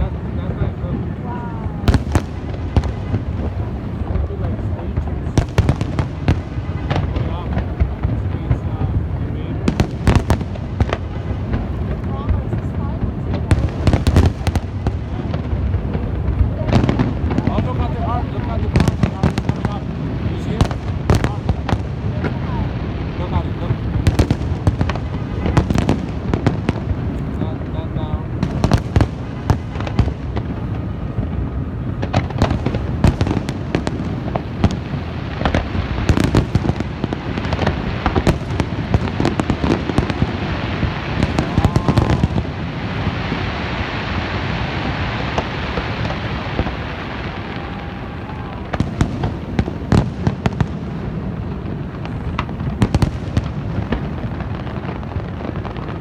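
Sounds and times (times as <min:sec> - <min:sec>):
fireworks bangs: 0:00.0 - 0:56.0
hissing crackle of fireworks: 0:00.0 - 0:56.0.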